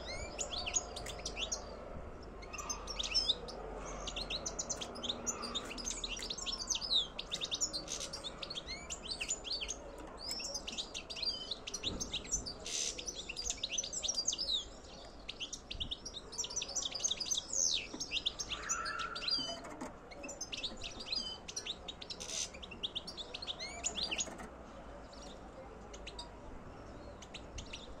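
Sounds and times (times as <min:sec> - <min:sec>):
bird twittering song: 0:00.0 - 0:28.0.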